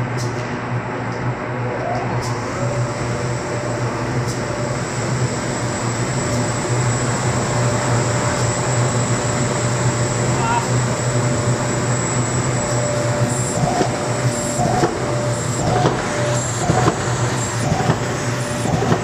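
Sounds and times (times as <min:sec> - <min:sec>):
printing machine running: 0:02.0 - 0:19.0.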